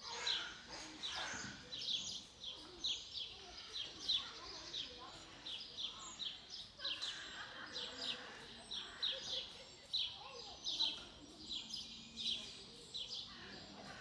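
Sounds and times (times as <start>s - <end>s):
distant voices murmuring: 0.0s - 14.0s.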